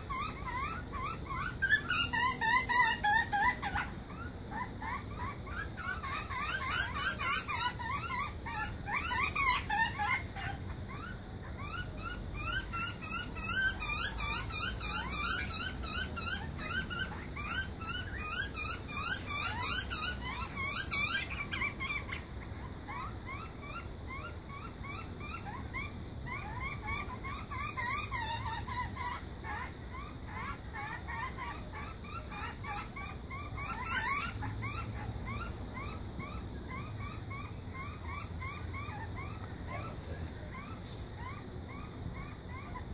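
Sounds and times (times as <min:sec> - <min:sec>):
young birds begging calls: 0:00.0 - 0:42.9.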